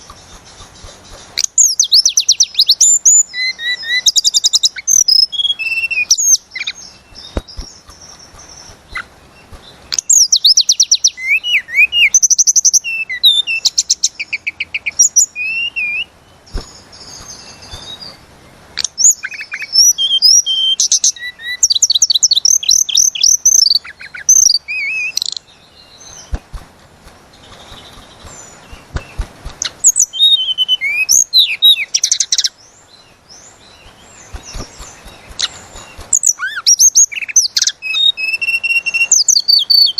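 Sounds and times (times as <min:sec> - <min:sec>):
songbird trilling and whistling: 0:00.0 - 0:18.2, 0:18.8 - 0:26.5, 0:27.3 - 0:39.9.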